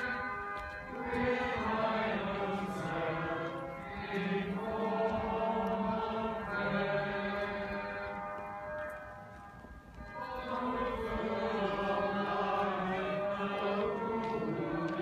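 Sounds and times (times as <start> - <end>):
group singing a slow hymn: 0.0 - 8.3, 10.2 - 15.0.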